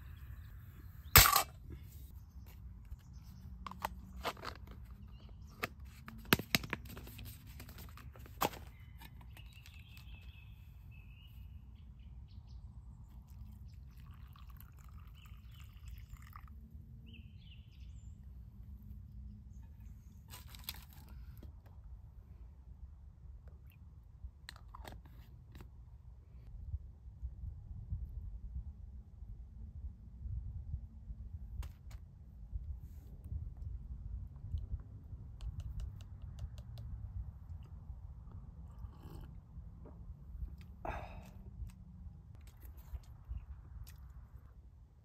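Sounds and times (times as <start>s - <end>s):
low outdoor background: 0.0s - 45.0s.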